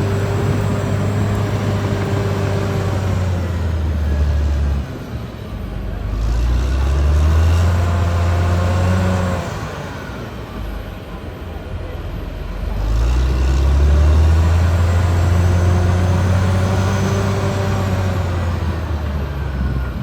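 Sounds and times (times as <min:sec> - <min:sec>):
bulldozer diesel engine under load: 0:00.0 - 0:20.0.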